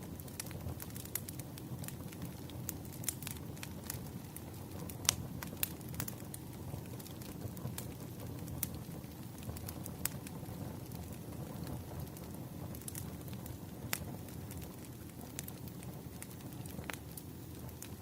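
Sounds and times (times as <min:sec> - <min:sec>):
burning wood crackling and popping: 0:00.0 - 0:18.0
campfire rumble: 0:00.0 - 0:18.0.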